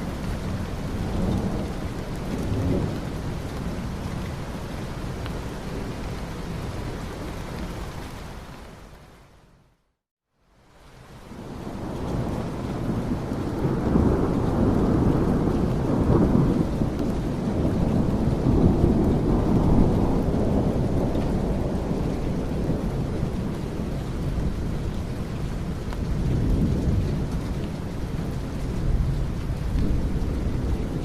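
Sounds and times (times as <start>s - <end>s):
low rumble of thunder: 0.0s - 7.2s, 11.3s - 31.0s
steady rain: 0.0s - 31.0s.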